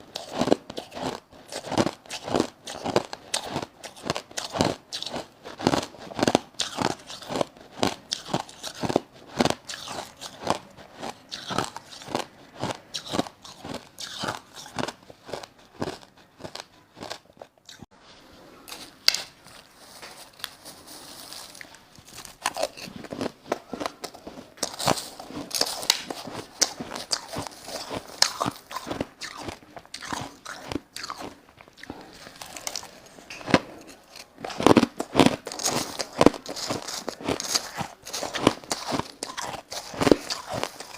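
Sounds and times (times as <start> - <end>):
person crunching ice: 0.0 - 17.9, 18.6 - 40.9.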